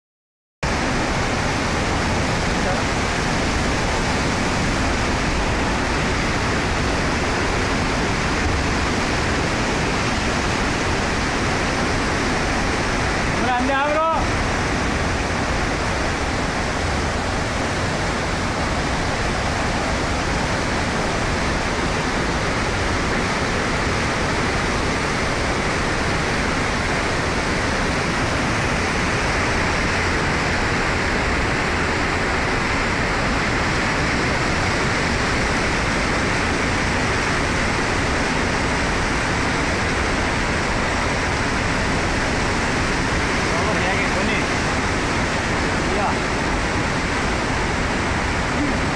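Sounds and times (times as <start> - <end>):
flood water rushing: 0.6 - 48.9.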